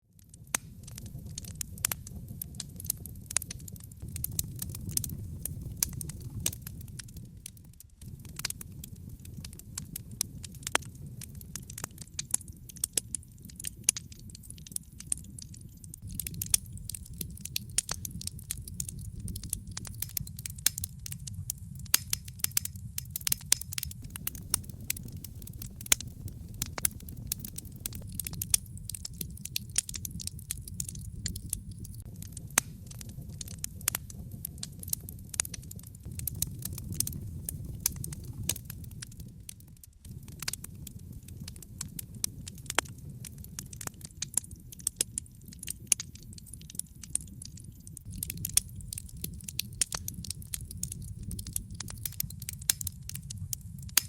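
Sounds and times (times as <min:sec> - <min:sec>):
low rumble of burning: 0:00.0 - 0:54.0
wood fire crackling and popping: 0:00.0 - 0:54.0.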